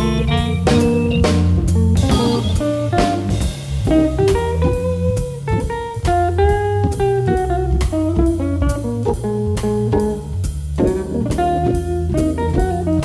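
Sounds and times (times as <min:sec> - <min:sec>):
drum kit beat: 0:00.0 - 0:13.0
plucked guitar melody: 0:00.0 - 0:13.0.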